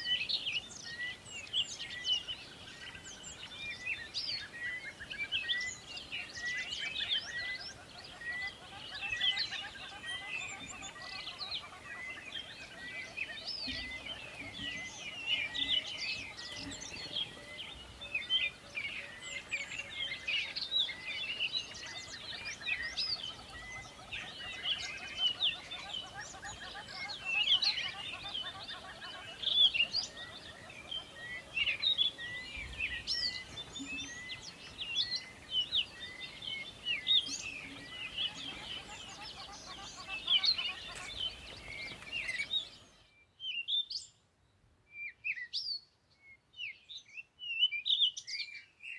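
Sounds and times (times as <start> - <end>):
birds chirping and calling: 0.0 - 44.2.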